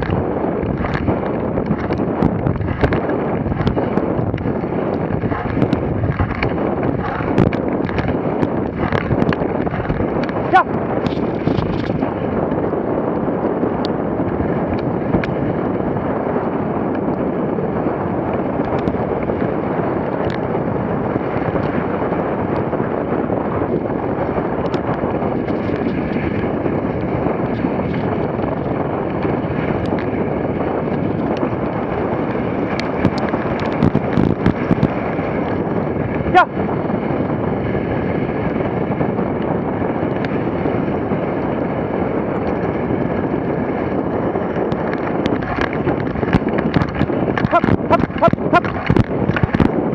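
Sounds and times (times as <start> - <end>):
sled runners sliding over snow: 0.0 - 49.9
wind buffeting microphone: 0.0 - 49.9.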